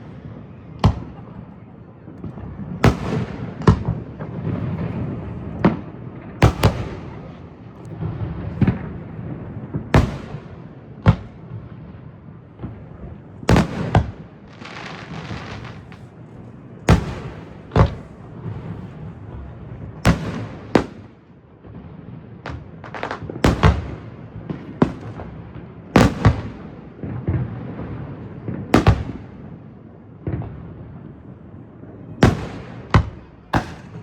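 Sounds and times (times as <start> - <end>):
fireworks crackling: 0.0 - 21.3, 22.4 - 29.6, 32.1 - 34.0
fireworks bangs: 0.0 - 34.0.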